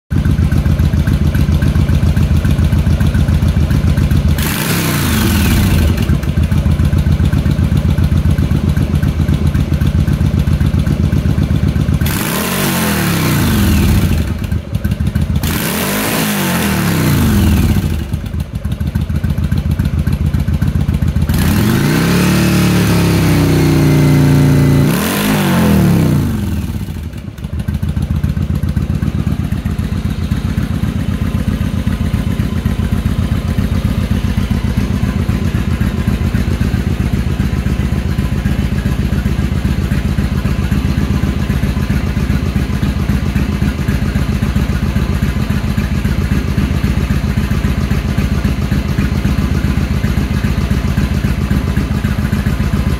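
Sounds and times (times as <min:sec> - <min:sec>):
motorcycle engine idling and revving: 0:00.0 - 0:52.9.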